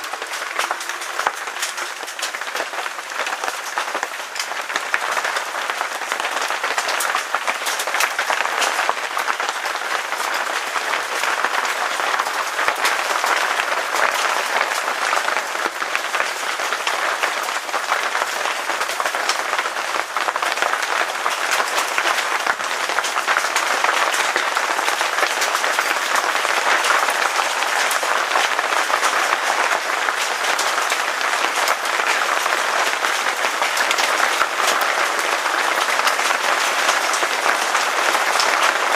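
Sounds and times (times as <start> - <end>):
hailstones pelting: 0.0 - 38.9.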